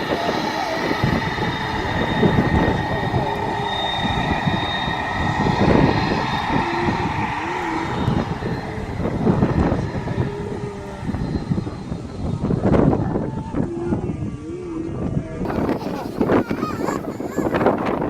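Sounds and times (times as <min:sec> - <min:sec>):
airplane engines whining and roaring: 0:00.0 - 0:18.0
wind buffeting microphone: 0:00.0 - 0:18.0.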